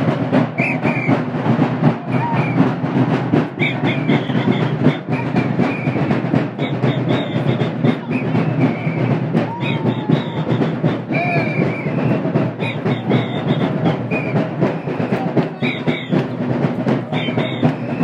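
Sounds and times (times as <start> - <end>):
big drums beating: 0.0 - 18.0.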